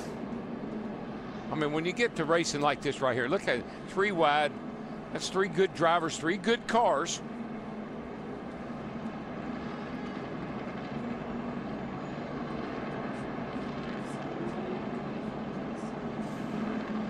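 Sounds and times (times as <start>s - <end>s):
race cars engines droning: 0.0s - 17.0s.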